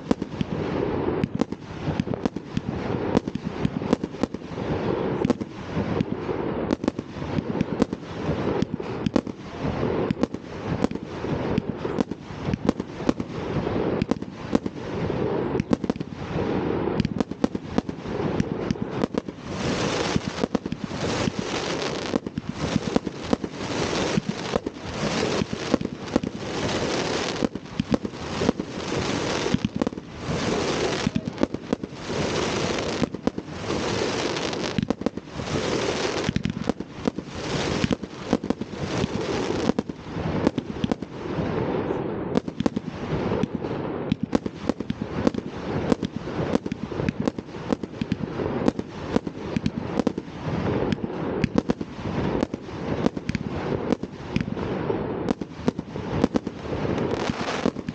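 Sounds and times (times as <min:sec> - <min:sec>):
fireworks hissing and crackling: 0:00.0 - 0:57.9
fireworks sharp bangs: 0:00.0 - 0:57.9.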